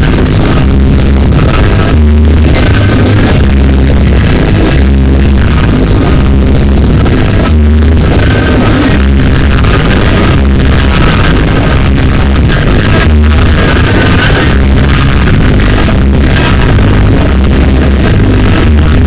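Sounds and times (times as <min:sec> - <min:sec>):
loud electronic dance music: 0:00.0 - 0:19.0.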